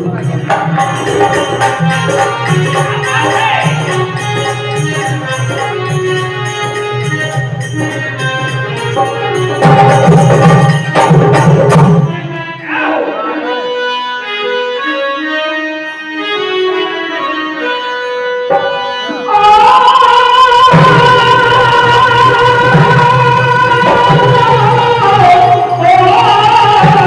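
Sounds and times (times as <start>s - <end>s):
harmonium melody: 0.0s - 27.0s.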